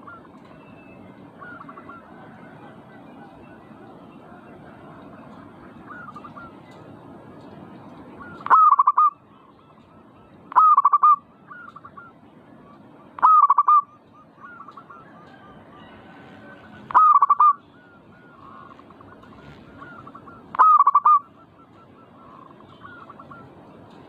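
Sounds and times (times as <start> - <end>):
dove cooing: 0.0 - 6.8, 8.2 - 12.2, 13.0 - 24.0.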